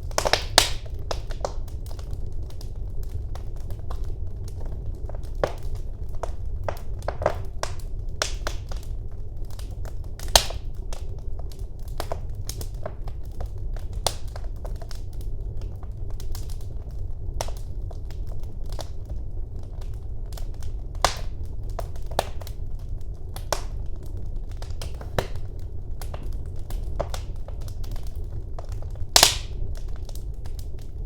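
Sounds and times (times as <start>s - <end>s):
sharp pops of burning wood: 0.0s - 15.0s, 19.8s - 22.6s, 23.4s - 30.8s
low rumble of flames: 0.0s - 31.0s
wood fire crackling: 0.0s - 31.0s.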